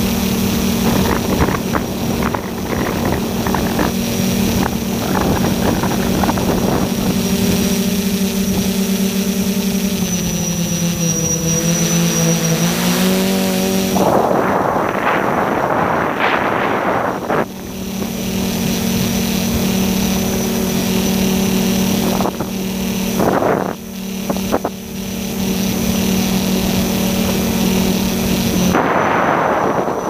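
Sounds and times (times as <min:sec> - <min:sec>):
rough rushing noise: 0:00.0 - 0:08.7, 0:09.9 - 0:30.0
drone motors buzzing: 0:00.0 - 0:30.0.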